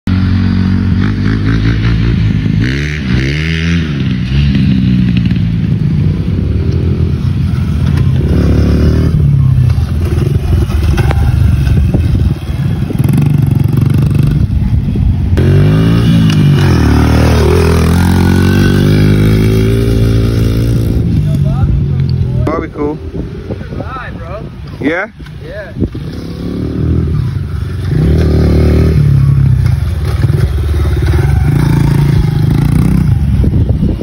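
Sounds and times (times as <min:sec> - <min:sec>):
dirt bike engine revving: 0:00.1 - 0:21.2, 0:25.9 - 0:33.8.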